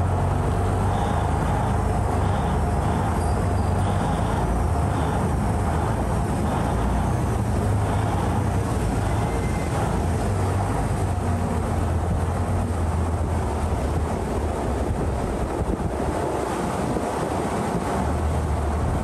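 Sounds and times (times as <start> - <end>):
boat engine humming: 0.0 - 19.0
constant wash of noise: 0.0 - 19.0.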